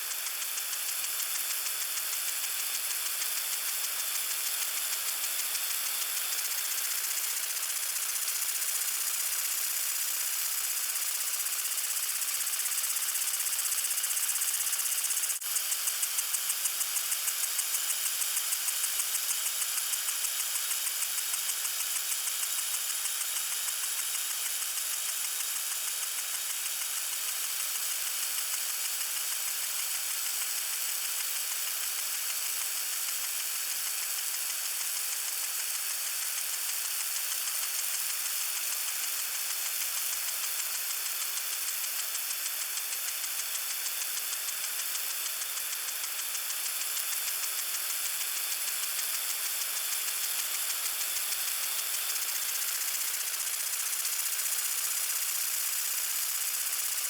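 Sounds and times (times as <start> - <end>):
lawn sprinkler spraying water: 0.0 - 57.0.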